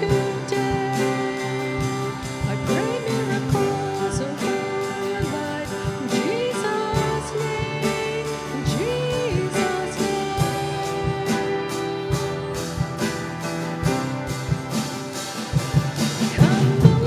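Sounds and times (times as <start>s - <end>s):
person singing lead vocal: 0.0s - 14.0s, 16.0s - 17.0s
acoustic guitar: 0.0s - 17.0s
electric guitar: 0.0s - 17.0s
keyboard: 0.0s - 17.0s.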